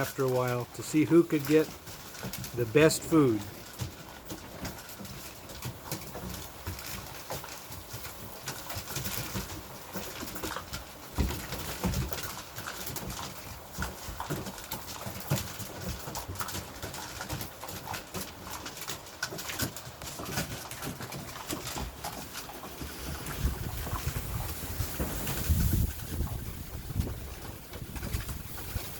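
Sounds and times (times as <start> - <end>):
puppies crunching kibble: 0.0 - 28.9.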